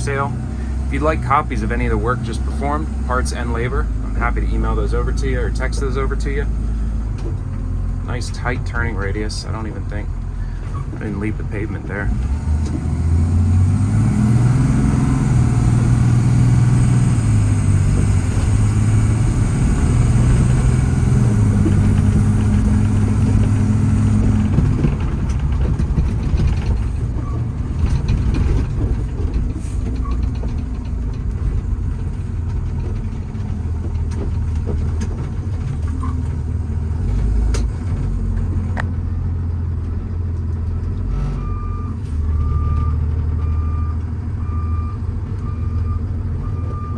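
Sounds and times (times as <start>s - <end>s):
diesel truck engine under load: 0.0s - 46.9s.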